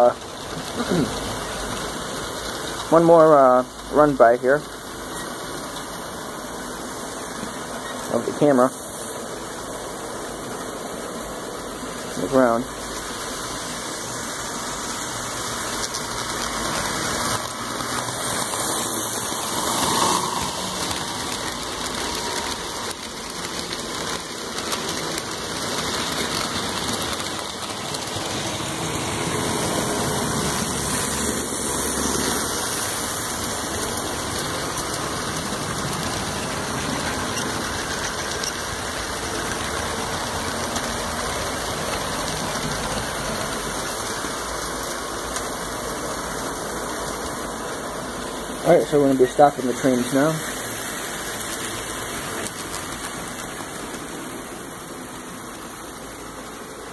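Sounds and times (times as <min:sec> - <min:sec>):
model trains rumbling on track: 0:00.0 - 0:56.9.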